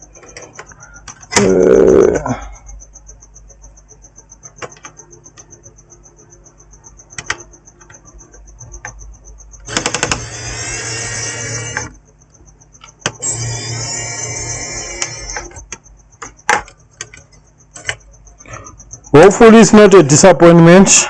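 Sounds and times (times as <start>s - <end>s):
high pulsing chirp: 0.0s - 21.0s.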